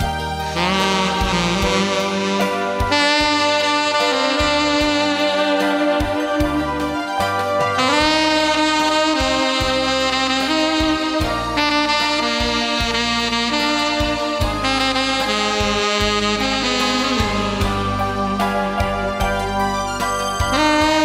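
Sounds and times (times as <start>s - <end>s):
backing track with beat and bass: 0.0s - 21.0s
saxophone slow melody: 0.0s - 21.0s.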